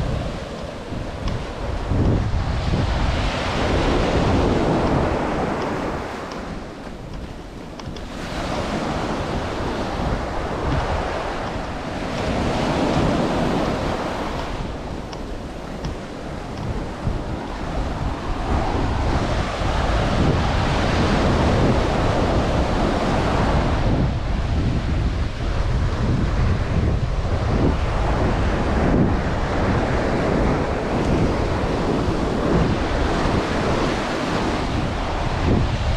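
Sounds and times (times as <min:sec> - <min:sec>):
surf breaking on beach: 0:00.0 - 0:35.9
wind rumbling on microphone: 0:00.0 - 0:35.9.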